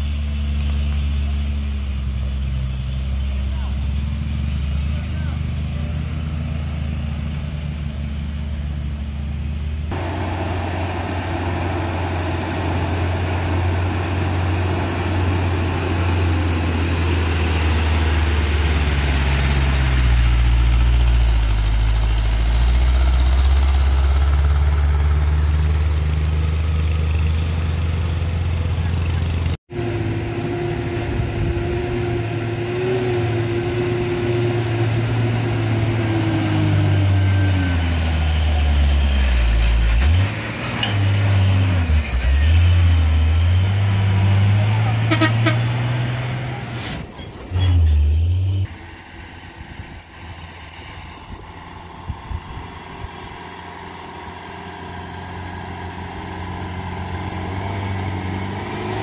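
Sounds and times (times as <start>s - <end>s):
diesel truck engines droning: 0.0s - 59.0s
truck engine with high whine: 0.0s - 59.0s.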